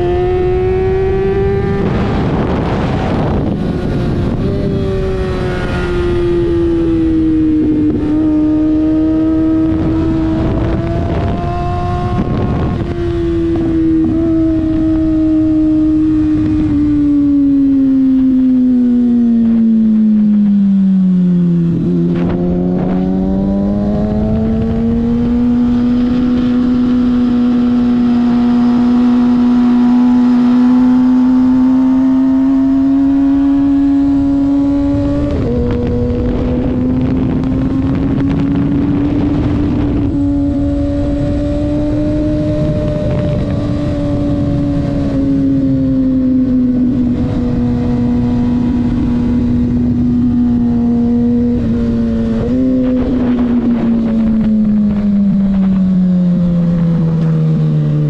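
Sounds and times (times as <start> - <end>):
wind rush: 0.0 - 20.6, 21.5 - 58.0
motorcycle engine at high revs: 0.0 - 58.0.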